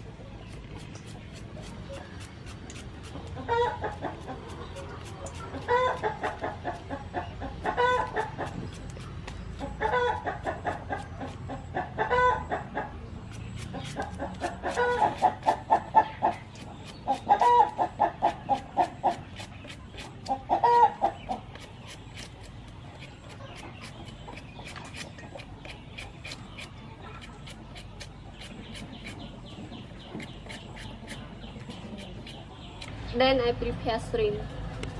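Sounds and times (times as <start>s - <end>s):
hen clucking: 0.0s - 32.9s
peeler scraping watermelon rind: 0.4s - 7.0s, 7.6s - 11.5s, 13.3s - 29.3s, 30.0s - 32.9s.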